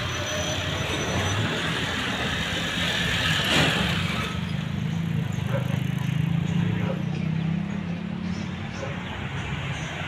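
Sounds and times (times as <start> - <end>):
motor vehicle engines running: 0.0 - 10.0.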